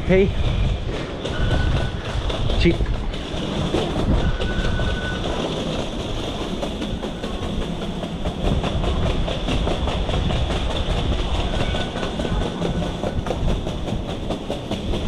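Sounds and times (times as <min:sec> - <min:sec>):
train carriage rumbling on rails: 0:00.0 - 0:15.0.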